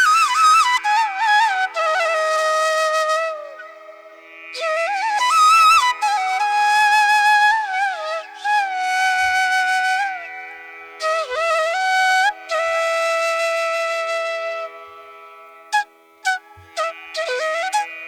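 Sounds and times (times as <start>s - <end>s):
flute melody: 0.0s - 10.2s, 11.0s - 18.0s.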